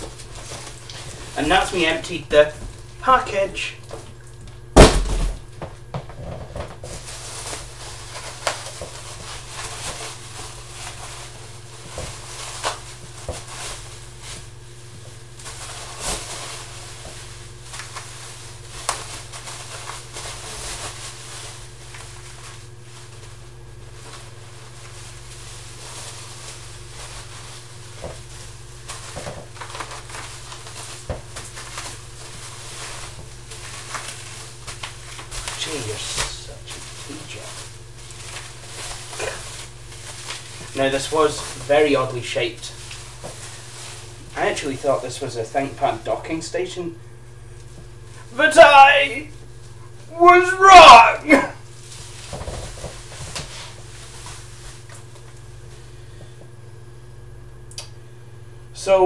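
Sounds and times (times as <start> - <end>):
plastic wrapping rustling and crinkling: 0.0 - 46.8, 47.4 - 56.2
steady low hum: 0.0 - 59.0.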